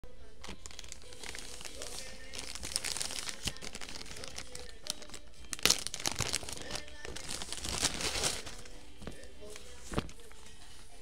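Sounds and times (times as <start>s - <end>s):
plastic bag crinkling: 0.4s - 10.4s.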